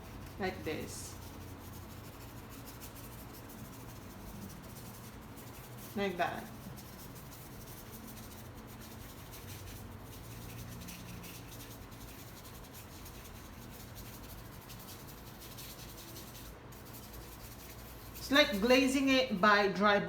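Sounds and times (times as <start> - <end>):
paintbrush rubbing on canvas: 0.0 - 19.1.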